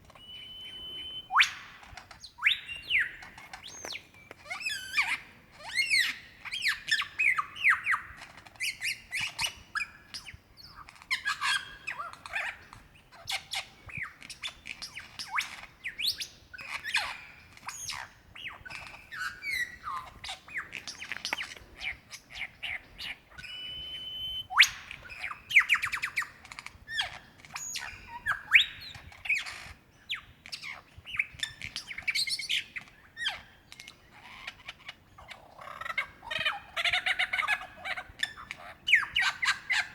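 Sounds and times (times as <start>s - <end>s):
lyrebird singing mimicked calls: 0.1s - 39.9s.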